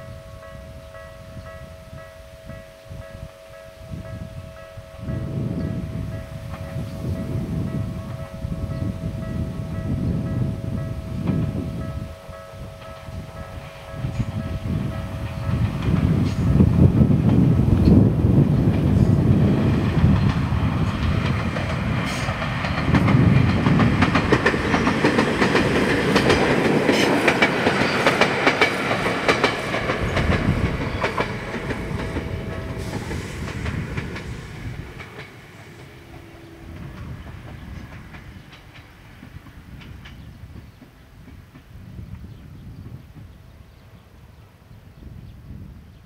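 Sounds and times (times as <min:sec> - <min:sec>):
electric train rumbling: 0:00.0 - 0:46.0.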